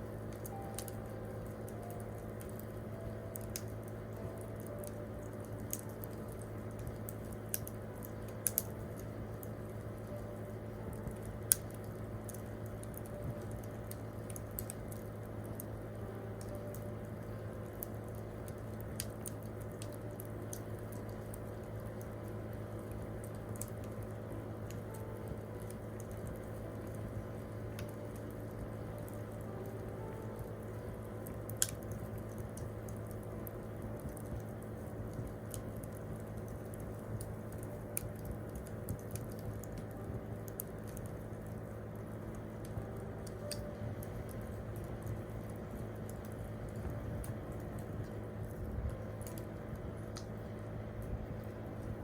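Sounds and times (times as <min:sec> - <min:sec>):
campfire crackling and popping: 0:00.0 - 0:52.0
steady low hum: 0:00.0 - 0:52.0.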